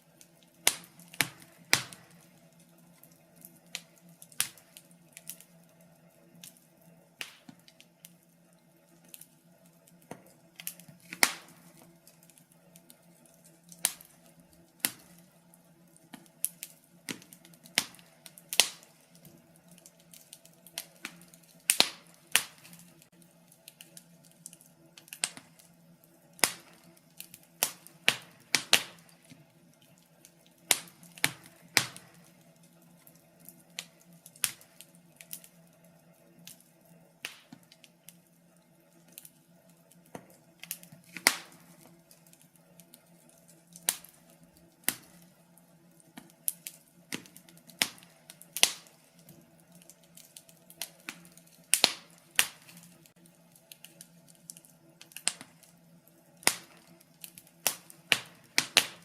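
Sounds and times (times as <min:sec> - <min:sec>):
firewood crackling and popping: 0:00.0 - 0:59.0.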